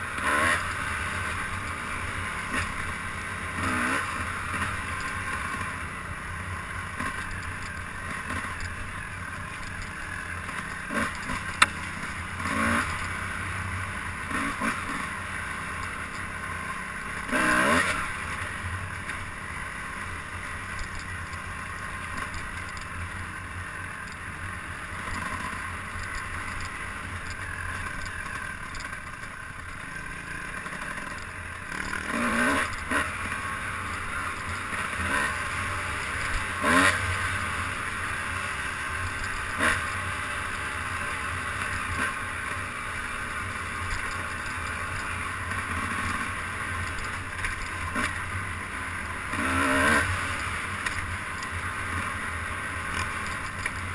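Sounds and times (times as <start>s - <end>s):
vehicle engine and rushing noise: 0.0s - 53.9s.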